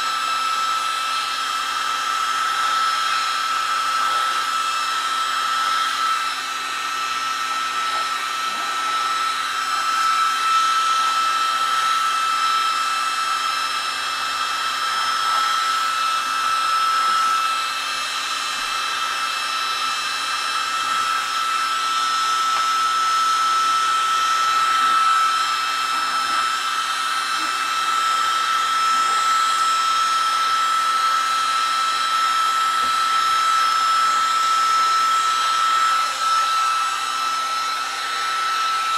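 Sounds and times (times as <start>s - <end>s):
heat gun fan whining: 0.0s - 38.9s.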